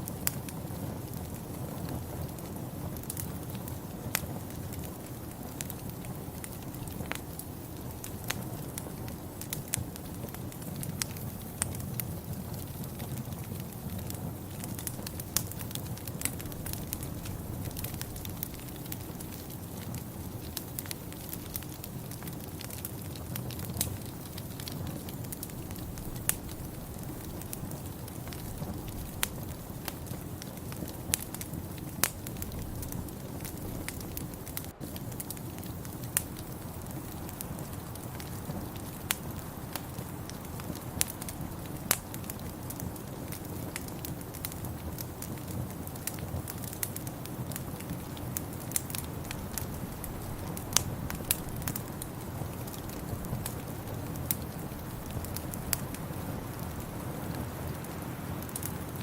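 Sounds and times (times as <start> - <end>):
low fire rumble: 0.0 - 59.0
wood fire crackling: 0.0 - 59.0.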